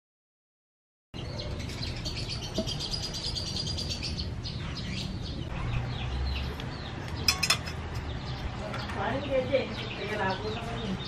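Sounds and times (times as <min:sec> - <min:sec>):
small birds chirping: 0:01.2 - 0:11.0.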